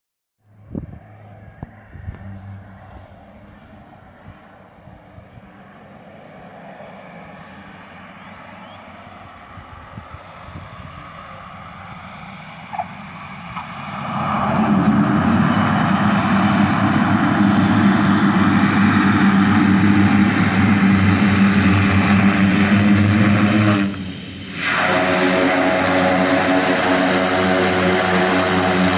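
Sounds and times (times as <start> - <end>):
airliner engine roar: 0.4 - 28.9.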